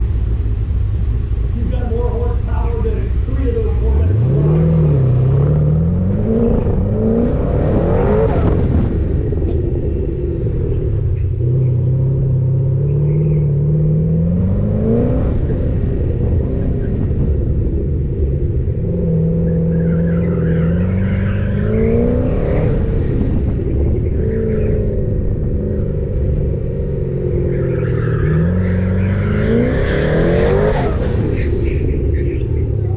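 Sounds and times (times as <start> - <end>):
car engine accelerating hard: 0.0 - 32.9.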